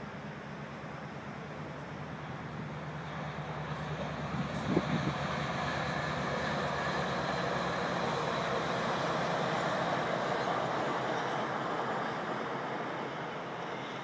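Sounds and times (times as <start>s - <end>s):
train rolling along rails: 0.0s - 14.0s.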